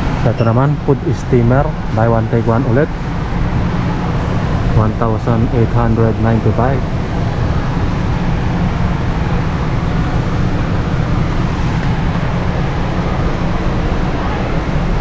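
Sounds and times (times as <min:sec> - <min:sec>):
store background rumble and hiss: 0:00.0 - 0:15.0.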